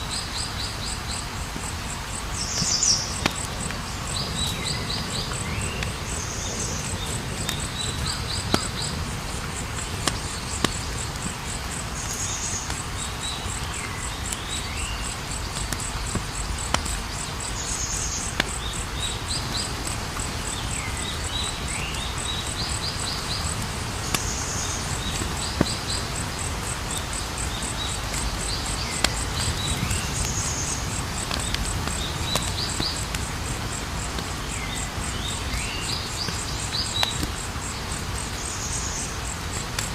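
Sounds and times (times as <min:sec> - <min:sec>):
cricket trilling: 0:00.0 - 0:39.9
wood fire crackling: 0:00.4 - 0:39.9.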